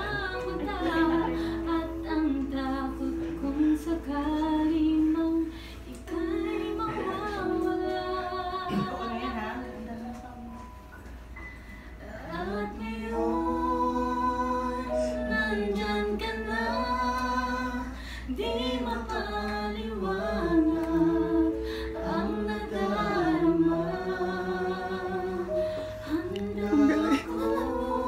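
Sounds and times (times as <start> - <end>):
person singing love song: 0.0 - 11.0, 11.9 - 28.0
background music: 0.0 - 28.0.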